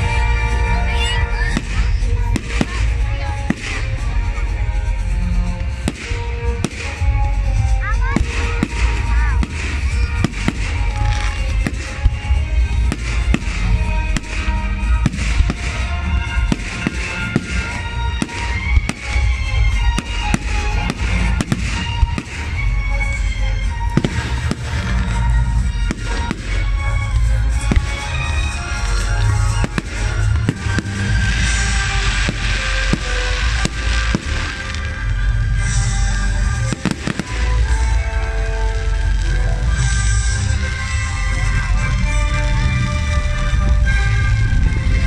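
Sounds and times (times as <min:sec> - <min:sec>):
fireworks bursting: 0:00.0 - 0:45.0
music playing: 0:00.0 - 0:45.0.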